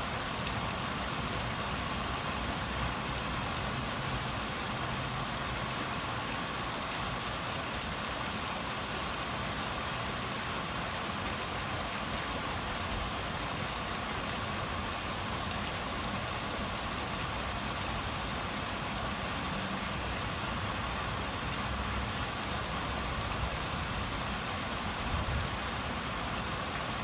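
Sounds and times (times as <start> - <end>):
water churning and splashing: 0.0 - 27.0.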